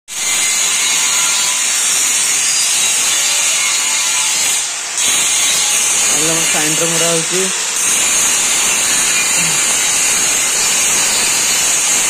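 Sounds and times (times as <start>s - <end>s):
angle grinder grinding steel: 0.1s - 12.0s.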